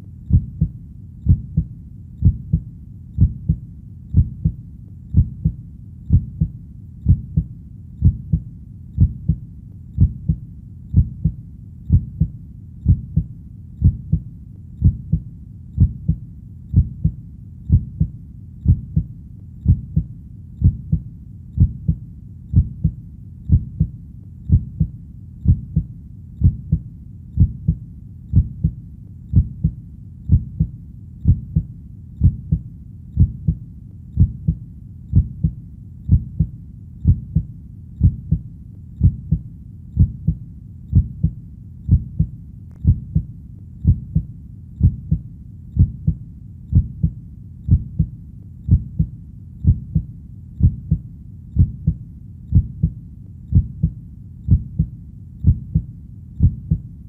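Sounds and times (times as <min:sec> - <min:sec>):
heartbeat thumps: 0:00.0 - 0:09.4, 0:10.0 - 0:56.9.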